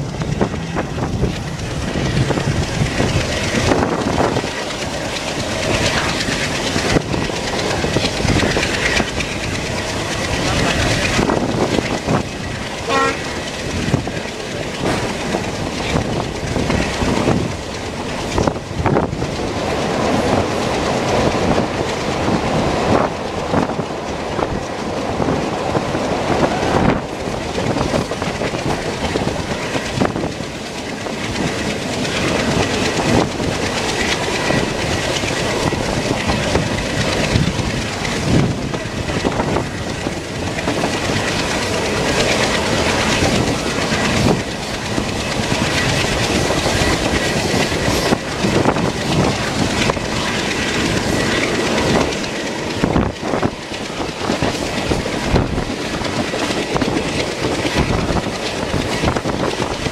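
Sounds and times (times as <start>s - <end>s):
train wheels rumbling on track: 0.0s - 59.9s
wheels clicking over rail joints: 0.0s - 59.9s.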